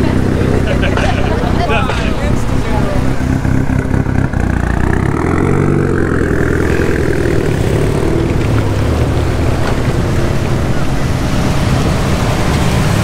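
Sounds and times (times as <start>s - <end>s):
car engine and exhaust running: 0.0s - 13.0s.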